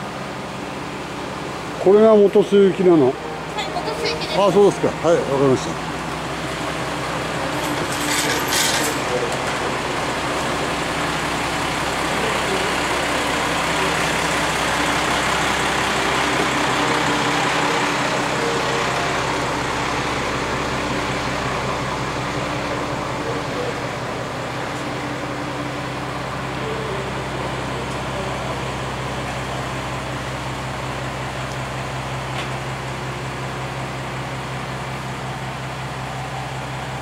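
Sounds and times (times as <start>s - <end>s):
diesel railcar engine idling: 0.0s - 37.0s.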